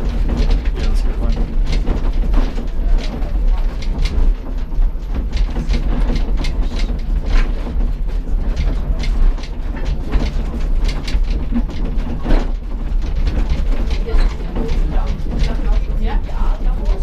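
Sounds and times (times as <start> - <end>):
cable machinery rumbling: 0.0 - 17.0
mechanical clattering and clicks: 0.0 - 17.0.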